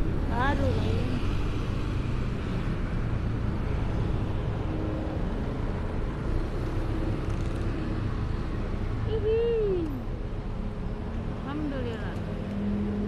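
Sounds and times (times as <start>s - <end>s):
road or wind noise: 0.0s - 13.0s
vehicle engine rumbling: 0.0s - 13.0s.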